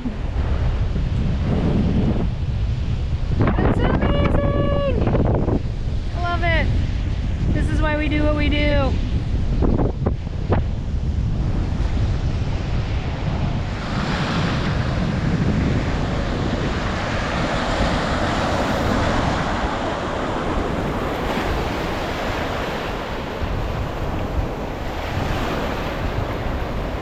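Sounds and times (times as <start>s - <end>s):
waves and rushing water: 0.0s - 27.0s
wind buffeting microphone: 0.0s - 27.0s.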